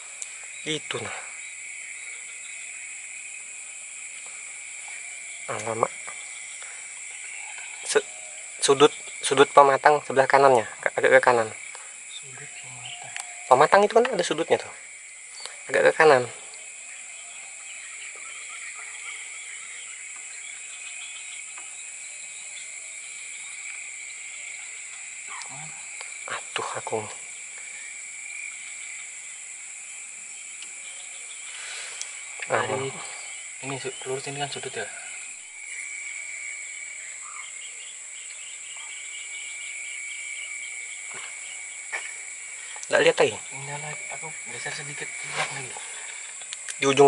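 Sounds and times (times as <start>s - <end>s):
frogs calling: 0.0s - 47.0s
insects droning: 0.0s - 47.0s.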